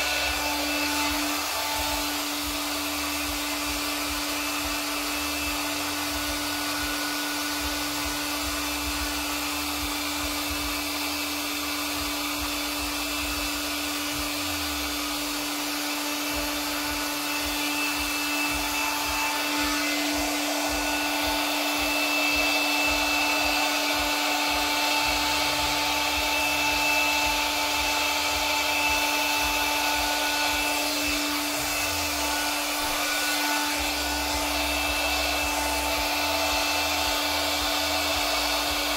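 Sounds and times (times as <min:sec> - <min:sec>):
electric blower motor hum: 0:00.0 - 0:38.9.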